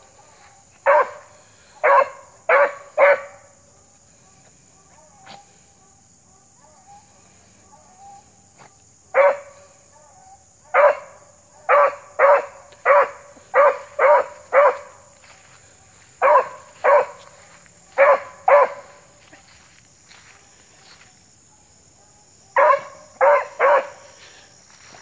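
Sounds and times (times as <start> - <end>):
dog barking: 0.8 - 8.3, 9.1 - 15.2, 15.8 - 19.6, 20.8 - 24.2.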